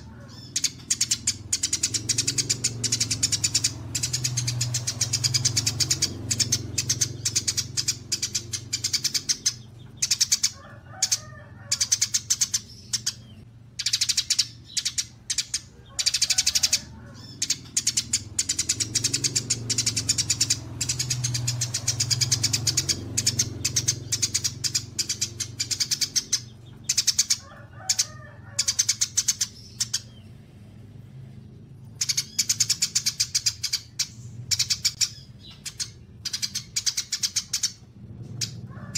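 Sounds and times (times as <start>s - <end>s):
songbird chirping rapidly: 0.0s - 38.9s.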